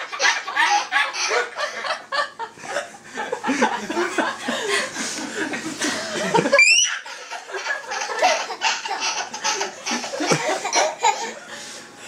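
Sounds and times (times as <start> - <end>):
toddlers laughing: 0.0 - 11.6
adults laughing: 0.0 - 11.7.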